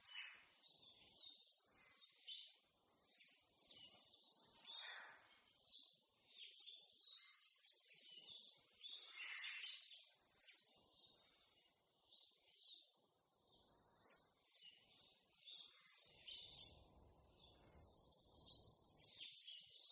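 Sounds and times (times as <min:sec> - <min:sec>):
songbirds chirping: 0:00.0 - 0:19.9.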